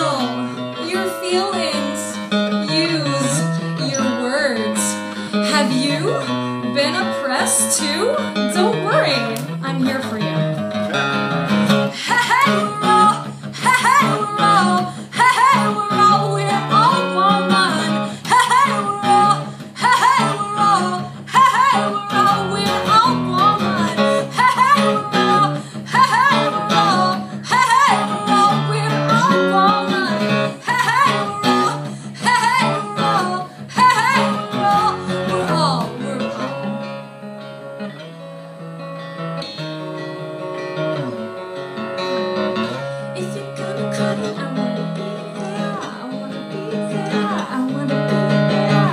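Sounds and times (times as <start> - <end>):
acoustic guitar: 0.0 - 48.9.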